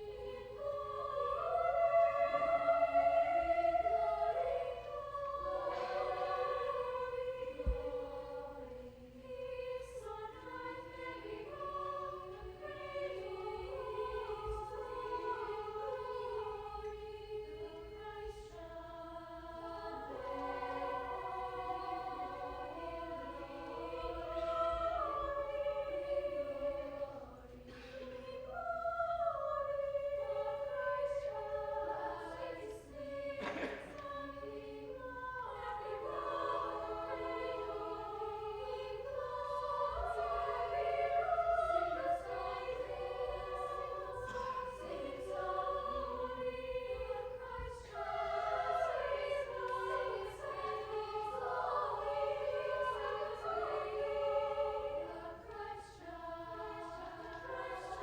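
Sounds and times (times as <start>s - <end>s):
choir singing in parts: 0.0s - 58.0s.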